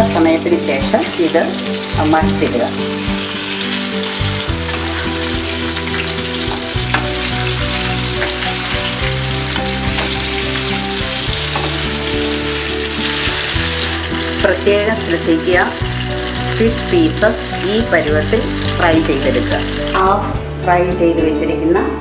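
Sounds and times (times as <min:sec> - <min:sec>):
background music with low notes: 0:00.0 - 0:22.0
fish sizzling in hot oil: 0:00.2 - 0:20.0.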